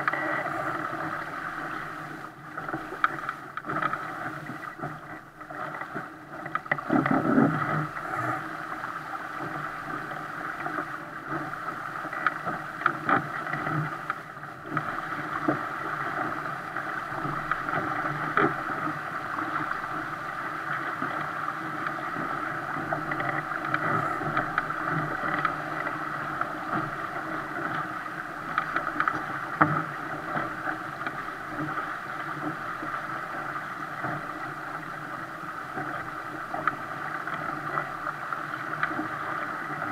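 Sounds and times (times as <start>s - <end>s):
water rushing along hull: 0.0s - 39.9s
waves slapping against bow: 0.0s - 39.9s.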